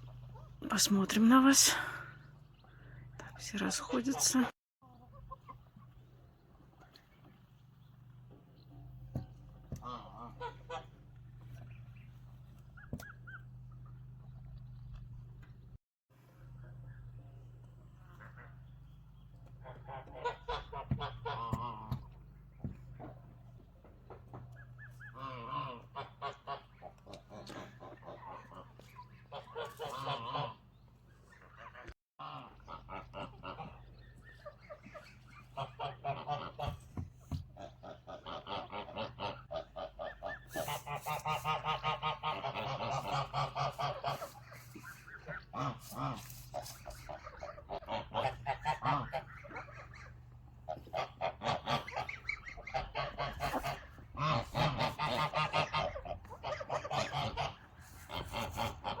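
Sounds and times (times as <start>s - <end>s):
hens clucking and squawking: 0.0s - 15.6s, 16.4s - 59.0s.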